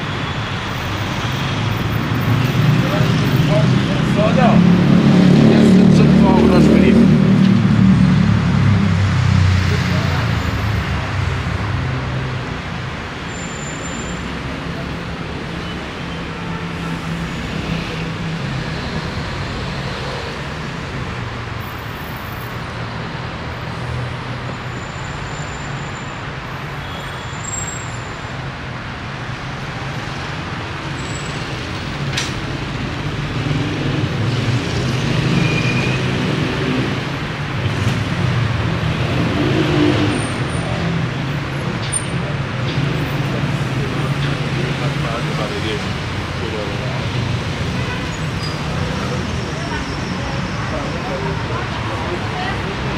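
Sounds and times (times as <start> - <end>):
vehicle engines humming: 0.0 - 52.9.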